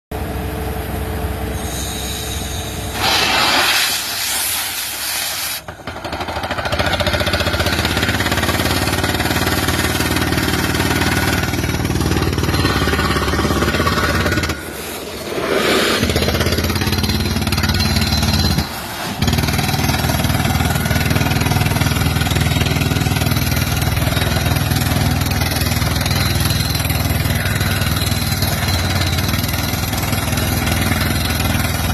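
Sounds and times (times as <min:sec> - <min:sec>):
engine running steadily: 0:00.1 - 0:31.9.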